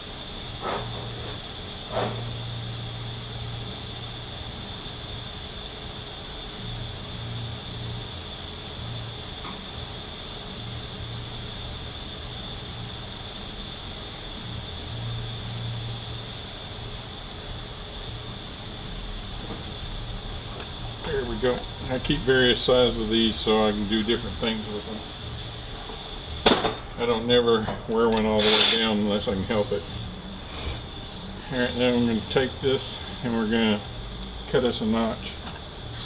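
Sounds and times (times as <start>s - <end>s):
background hiss and low hum: 0.0s - 36.0s.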